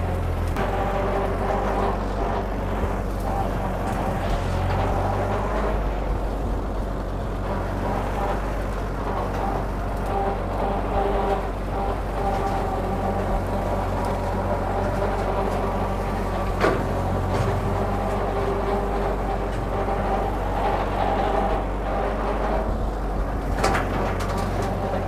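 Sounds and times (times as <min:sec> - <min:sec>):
rotary brush cutter cutting brush: 0:00.0 - 0:22.8
tractor engine running: 0:00.0 - 0:25.0.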